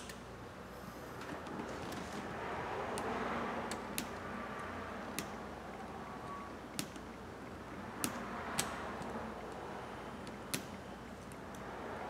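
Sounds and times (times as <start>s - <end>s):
steady room hiss: 0.0s - 12.0s.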